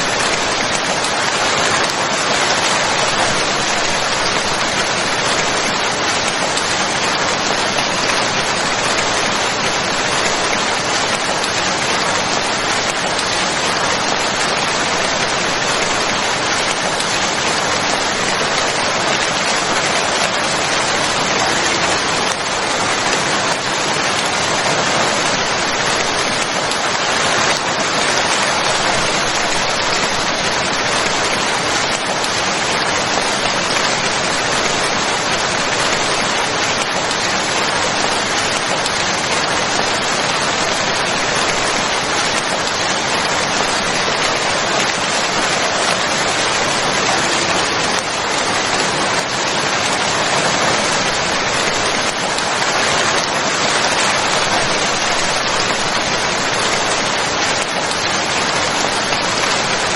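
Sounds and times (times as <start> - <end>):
dense rain falling: 0.0 - 59.9.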